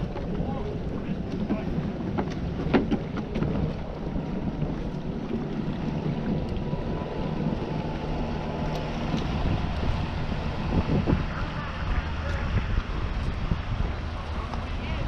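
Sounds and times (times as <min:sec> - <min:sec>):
boat engines running: 0:00.0 - 0:15.0
wind buffeting microphone: 0:00.0 - 0:15.0.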